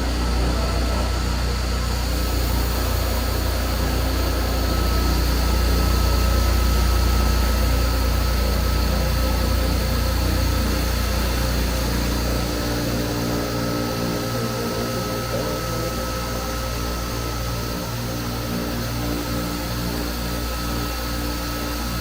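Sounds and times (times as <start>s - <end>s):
foam-cutting machine motor hum: 0.0s - 22.0s
thin steady whine: 0.0s - 22.0s.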